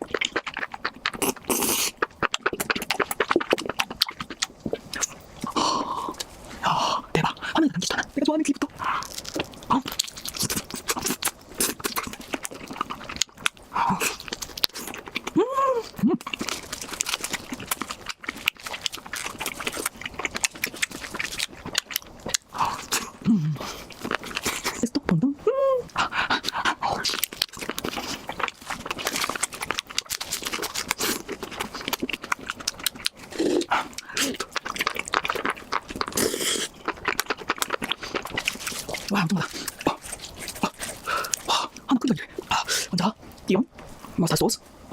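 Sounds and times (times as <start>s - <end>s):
mouth chewing crunchily: 0.0s - 44.9s.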